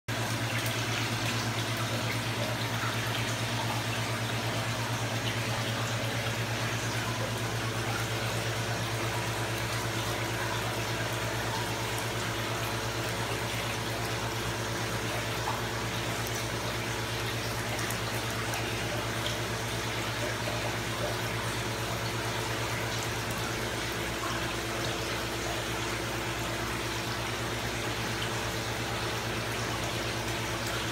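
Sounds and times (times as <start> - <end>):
low steady hum: 0.1 - 30.9.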